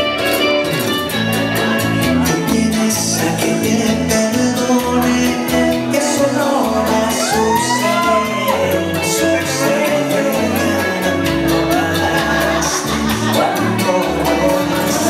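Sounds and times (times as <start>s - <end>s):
percussion beat: 0.0s - 15.0s
salsa music: 0.0s - 15.0s
person singing: 0.8s - 15.0s.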